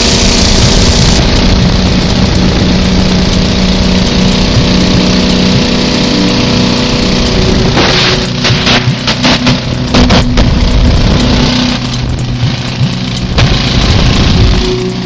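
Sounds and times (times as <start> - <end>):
loud boat engine: 0.0 - 15.0.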